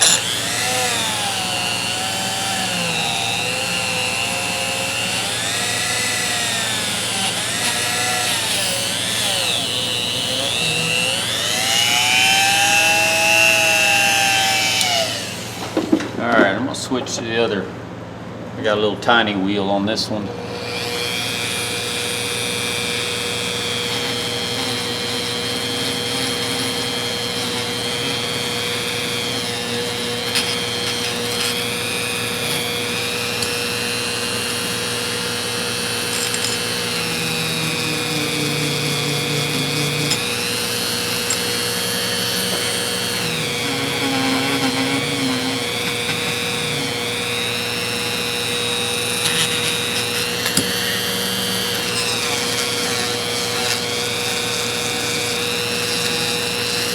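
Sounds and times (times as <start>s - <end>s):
rotary tool whining on metal: 0.0s - 16.2s, 20.4s - 56.9s.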